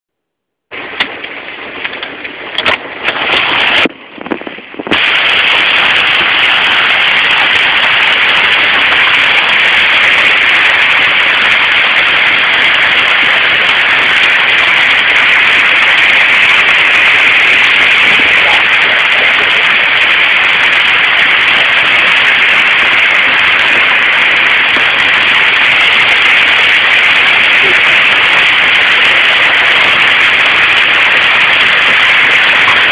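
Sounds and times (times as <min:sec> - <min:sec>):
hail and heavy rain: 0:00.7 - 0:04.1, 0:04.9 - 0:32.9.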